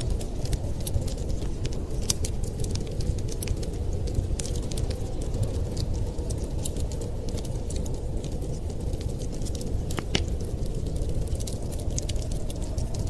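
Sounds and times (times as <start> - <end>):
fire pops: 0.0 - 13.0
low fire rumble: 0.0 - 13.0
wood fire crackling: 0.0 - 13.0.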